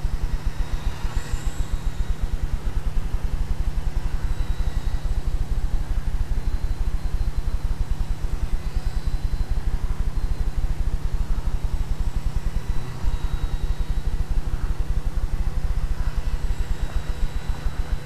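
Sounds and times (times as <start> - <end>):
faint thin whine: 0.0 - 18.0.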